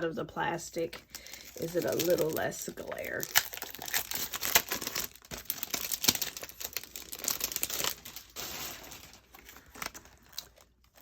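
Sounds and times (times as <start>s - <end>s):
plastic packaging crinkling: 1.0s - 11.0s.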